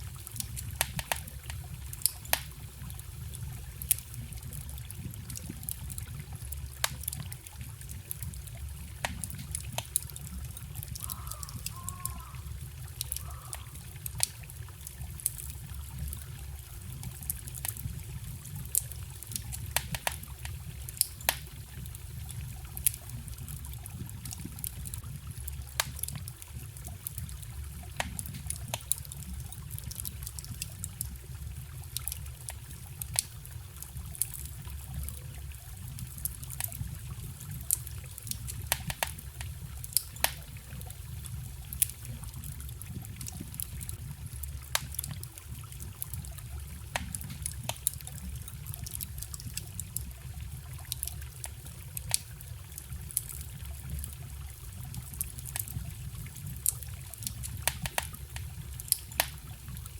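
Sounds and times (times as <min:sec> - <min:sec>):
stream rushing and trickling: 0:00.0 - 0:59.9
wood fire crackling: 0:00.0 - 0:59.9.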